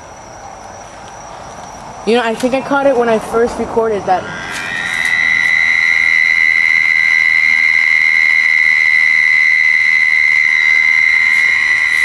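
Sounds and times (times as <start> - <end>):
steady high-pitched whine: 0.0 - 12.0.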